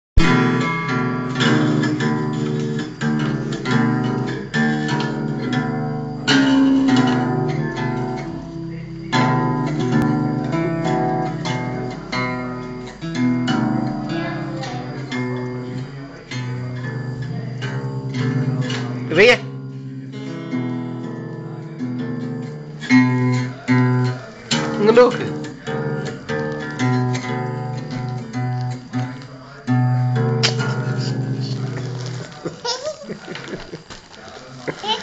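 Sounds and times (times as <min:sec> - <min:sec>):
acoustic guitar strums and plucks: 0:00.2 - 0:33.9.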